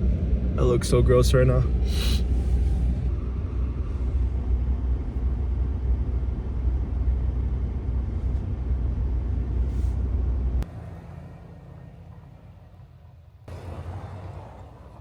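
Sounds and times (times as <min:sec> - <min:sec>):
vehicle interior rumble: 0:00.0 - 0:15.0.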